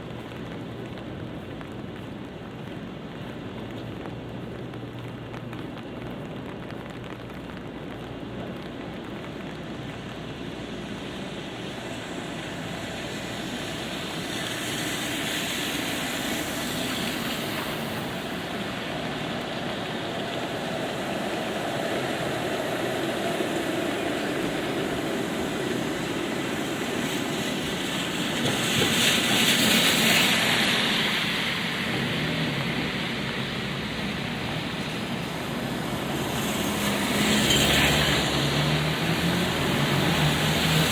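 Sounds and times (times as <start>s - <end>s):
light rain: 0.0s - 40.9s
vehicles passing with tyre hiss: 0.0s - 40.9s.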